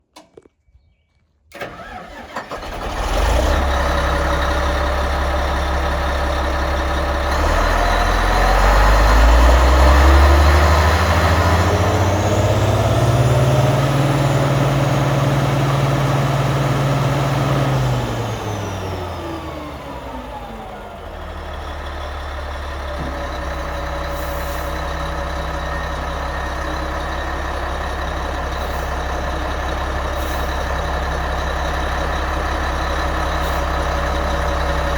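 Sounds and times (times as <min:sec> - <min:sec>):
diesel engine starting and revving: 0:01.5 - 0:34.9.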